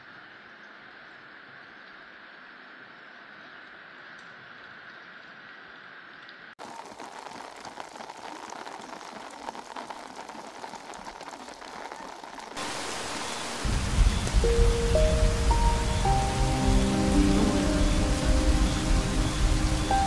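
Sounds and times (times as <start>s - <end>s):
steady rain pattering: 0.0s - 20.0s.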